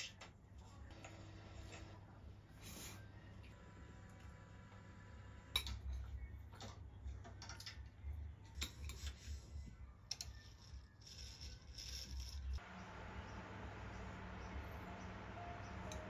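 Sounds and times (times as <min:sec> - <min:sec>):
faint low hum: 0:00.2 - 0:16.0.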